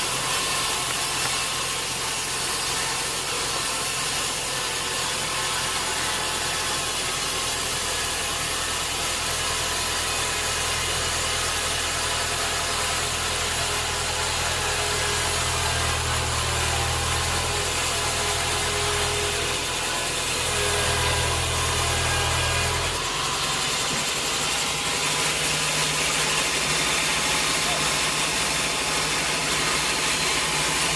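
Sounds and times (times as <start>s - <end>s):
sawmill motor hum: 0.0s - 30.9s.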